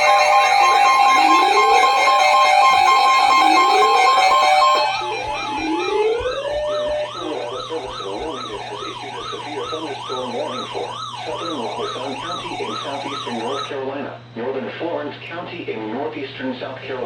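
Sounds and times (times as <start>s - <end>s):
electronic siren wailing: 0.0s - 13.7s
steady electronic tones: 0.0s - 13.7s.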